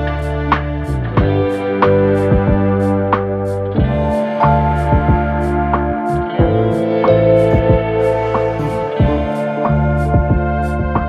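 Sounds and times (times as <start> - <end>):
light regular beat: 0.0 - 11.0
plucked notes over bass line: 0.0 - 11.0.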